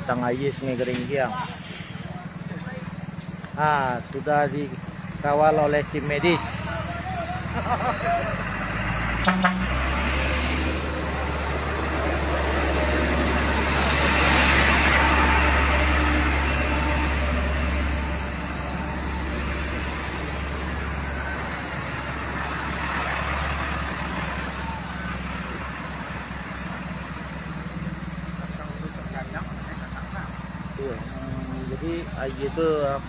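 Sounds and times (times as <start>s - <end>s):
heavy truck engines droning: 0.0s - 33.0s
rushing traffic noise: 0.0s - 33.0s.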